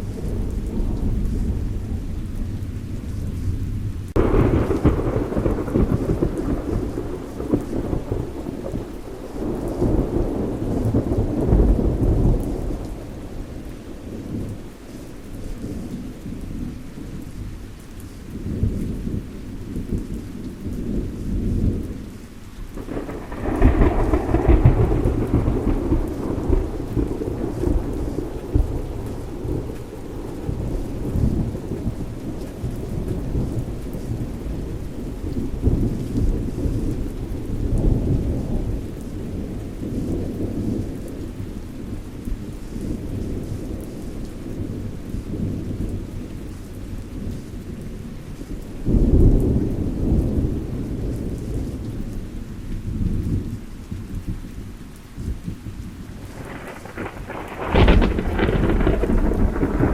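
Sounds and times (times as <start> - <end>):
thunder rumbling: 0.0 - 17.2, 18.4 - 59.9
steady rain: 0.0 - 59.9.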